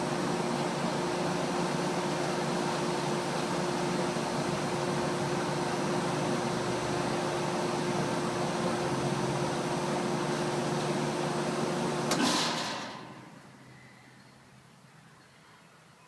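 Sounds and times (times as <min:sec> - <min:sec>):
air conditioner whooshing hum: 0:00.0 - 0:16.0.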